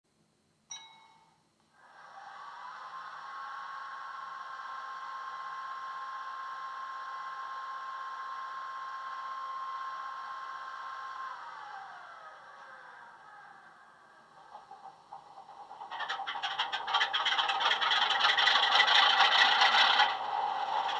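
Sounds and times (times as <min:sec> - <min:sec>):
diesel locomotive whine through speakers: 0:01.8 - 0:20.9.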